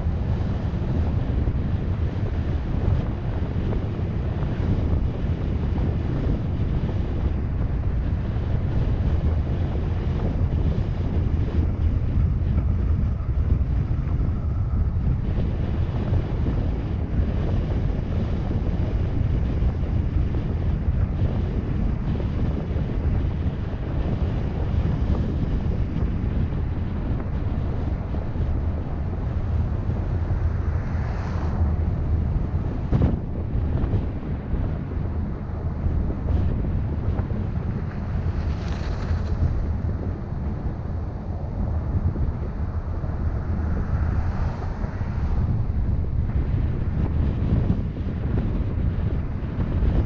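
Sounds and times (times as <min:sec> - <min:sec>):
road noise: 0:00.0 - 0:50.0
wind buffeting microphone: 0:00.0 - 0:50.0.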